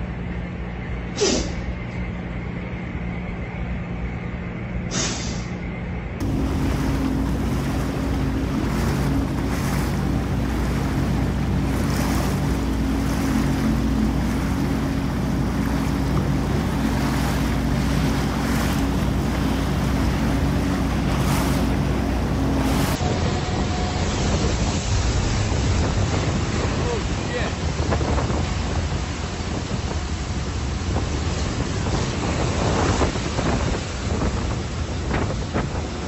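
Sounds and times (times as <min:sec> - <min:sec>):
jet ski engine running: 0:06.2 - 0:36.0
rushing water: 0:06.2 - 0:36.0
wind on microphone: 0:06.2 - 0:36.0.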